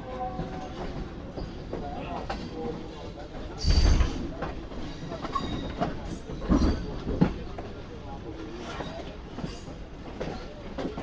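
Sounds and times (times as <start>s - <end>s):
train wheel clatter: 0.0s - 11.0s.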